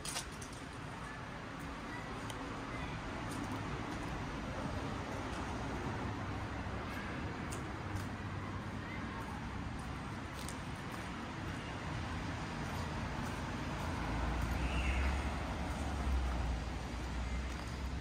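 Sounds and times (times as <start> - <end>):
road traffic passing: 0.0 - 18.0
vehicle rumble: 0.0 - 18.0.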